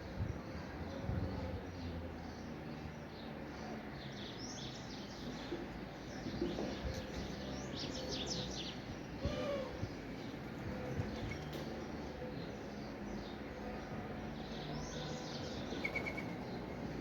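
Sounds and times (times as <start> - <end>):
small birds chirping: 0.6 - 17.0.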